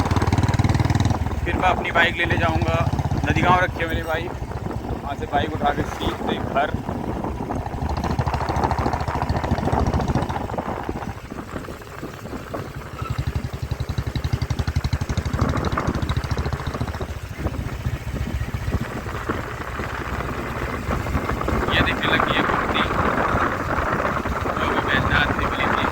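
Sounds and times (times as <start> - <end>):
motorcycle engine running: 0.0 - 25.9
wind noise: 0.0 - 25.9.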